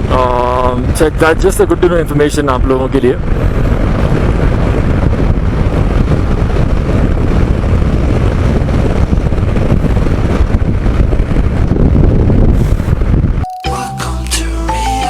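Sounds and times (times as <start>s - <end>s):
wind rush on microphone: 0.0s - 13.5s
road noise: 0.0s - 15.0s.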